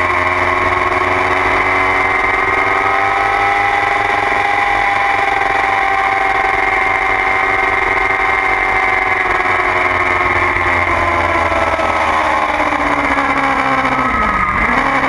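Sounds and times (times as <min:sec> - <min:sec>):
motorcycle engine running hard: 0:00.0 - 0:15.0.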